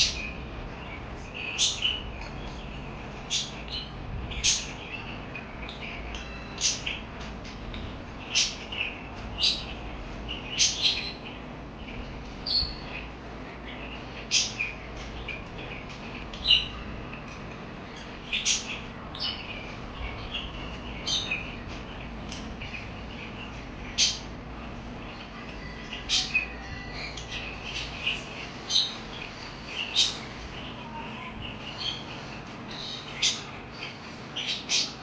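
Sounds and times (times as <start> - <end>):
parakeets chirping: 0.0 - 35.0
parakeets warbling chatter: 0.0 - 35.0.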